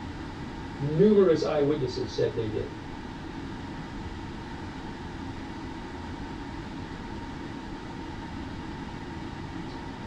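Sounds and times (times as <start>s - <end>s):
low rumble and hiss: 0.0s - 10.0s.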